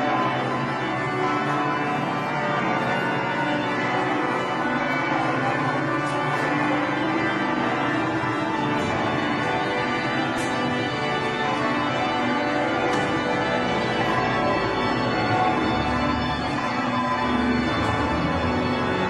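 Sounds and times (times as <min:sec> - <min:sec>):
organ music: 0:00.0 - 0:19.0.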